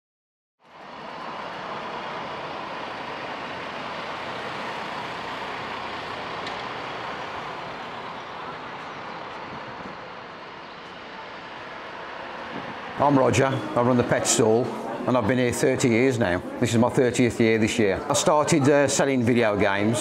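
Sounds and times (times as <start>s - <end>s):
cars driving past: 0.6s - 20.0s.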